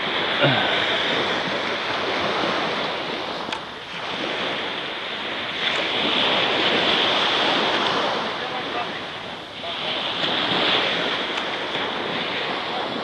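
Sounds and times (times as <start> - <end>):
small waves breaking on beach: 0.0 - 13.0.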